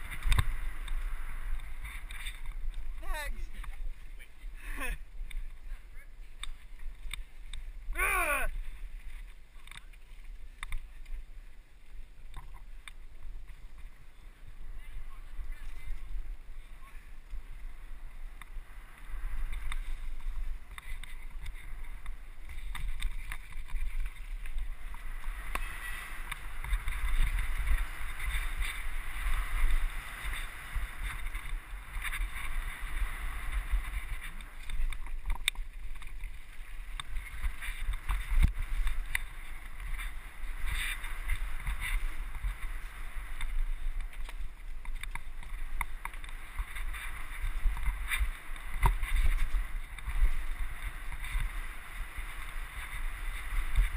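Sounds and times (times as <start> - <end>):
bike tyres hissing over dirt: 0.0 - 9.4, 10.2 - 53.9
wind rumbling on microphone: 0.0 - 53.9.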